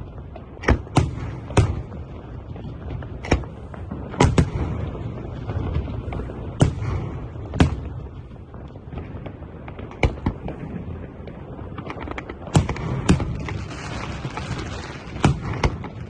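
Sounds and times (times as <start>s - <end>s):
crackling firework pops: 0.0s - 16.0s.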